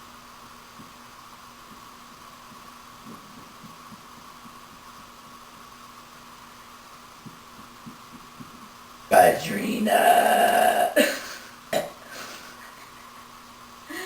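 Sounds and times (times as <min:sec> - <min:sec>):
quiet electrical hum: 0:00.0 - 0:14.0.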